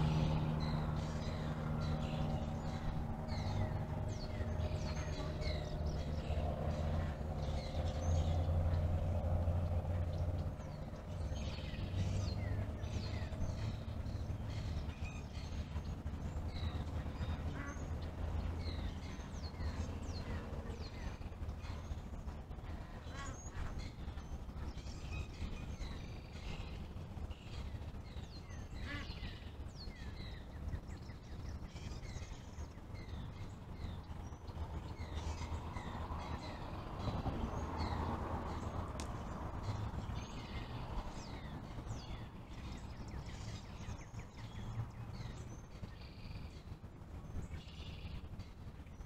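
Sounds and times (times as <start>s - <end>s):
vehicle passing: 0.0s - 27.9s, 33.4s - 45.6s
bird calls and chirps: 0.0s - 49.0s
road traffic rumble: 0.0s - 49.0s.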